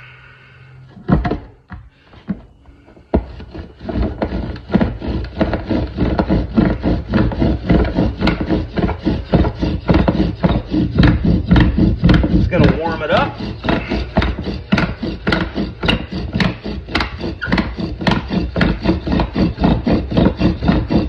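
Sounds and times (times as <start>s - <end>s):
bow drill spindle rubbing: 0.8s - 21.0s
wooden knocks: 1.0s - 21.0s.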